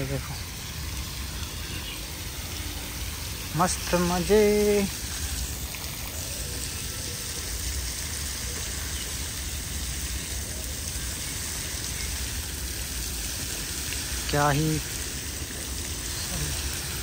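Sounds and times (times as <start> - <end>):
fountain spray splashing onto water: 0.0 - 17.0.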